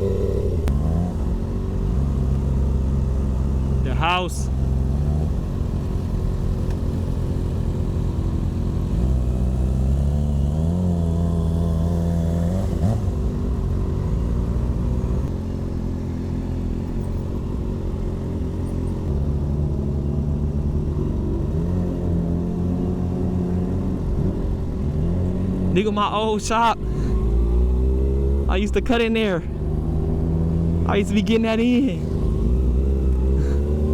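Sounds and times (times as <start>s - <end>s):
motorcycle engine accelerating: 0.0s - 3.9s, 4.5s - 25.7s, 26.8s - 33.9s.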